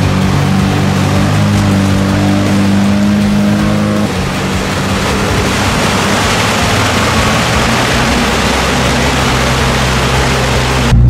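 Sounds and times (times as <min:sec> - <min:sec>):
tyres rushing on wet ground: 0:00.0 - 0:10.9
off-road vehicle engine droning: 0:00.0 - 0:11.0.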